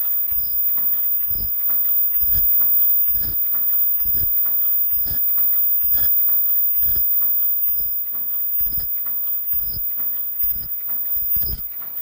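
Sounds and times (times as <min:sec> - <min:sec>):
machine thud and click cycle: 0:00.0 - 0:12.0.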